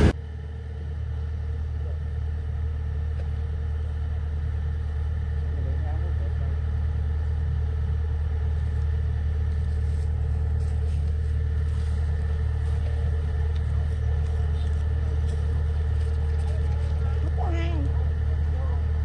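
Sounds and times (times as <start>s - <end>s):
combine harvester droning: 0.0s - 19.0s.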